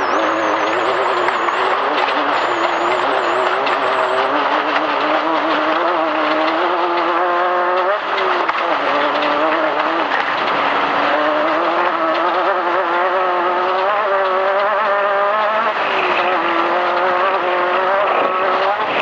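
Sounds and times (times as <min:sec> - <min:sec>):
race vehicle engine running hard: 0:00.0 - 0:19.0.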